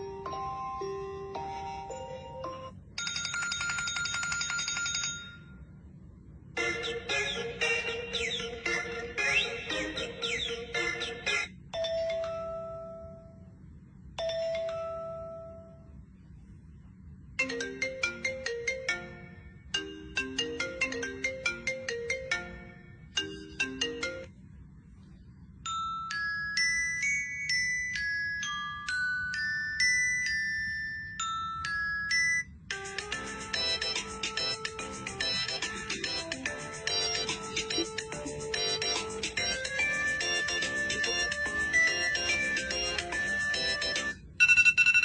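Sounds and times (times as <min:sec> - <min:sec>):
electronic ringtone melodies: 0:00.0 - 0:05.6, 0:06.6 - 0:13.4, 0:14.2 - 0:15.9, 0:17.4 - 0:24.4, 0:25.7 - 0:45.0.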